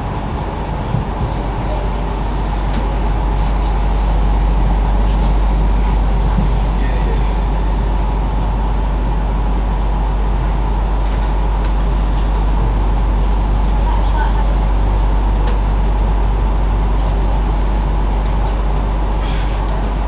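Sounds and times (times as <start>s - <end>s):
train interior rumble: 0.0s - 20.0s.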